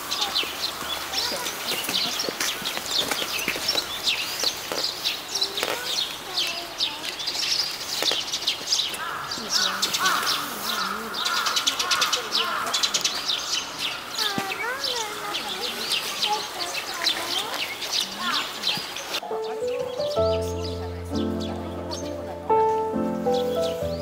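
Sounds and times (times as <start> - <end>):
people talking: 0.0 - 3.9, 5.3 - 7.3, 9.4 - 13.1, 14.1 - 24.0
small birds chirping: 0.0 - 24.0.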